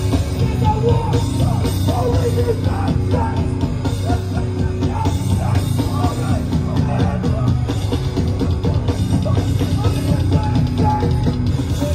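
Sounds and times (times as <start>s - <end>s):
punk band playing live: 0.0s - 11.9s.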